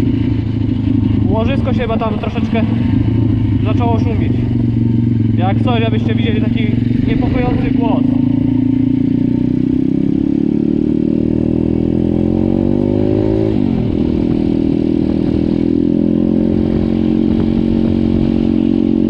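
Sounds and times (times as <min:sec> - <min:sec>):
motorbike engine revving: 0:00.0 - 0:19.0.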